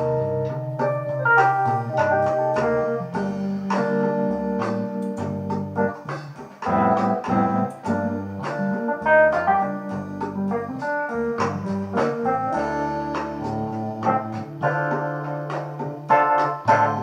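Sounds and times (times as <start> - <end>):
keyboard music: 0.0 - 17.0.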